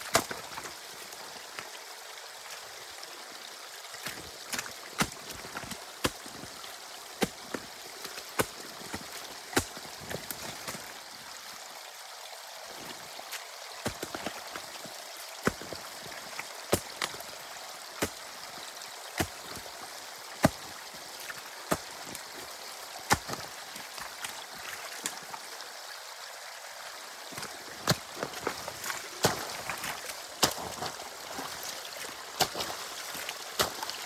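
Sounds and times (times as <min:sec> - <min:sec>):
water running through dam: 0:00.0 - 0:34.0.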